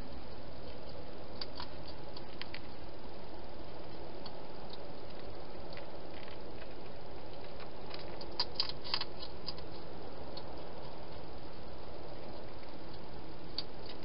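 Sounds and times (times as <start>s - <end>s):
steady hiss: 0.0s - 14.0s
hedgehog eating clicks: 0.3s - 2.8s, 3.8s - 11.4s, 12.0s - 14.0s.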